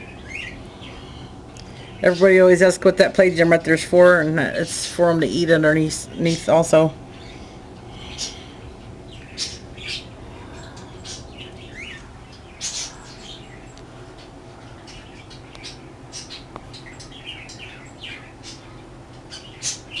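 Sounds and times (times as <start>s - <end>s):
birds chirping: 0.0s - 20.0s
low background hum: 0.0s - 20.0s.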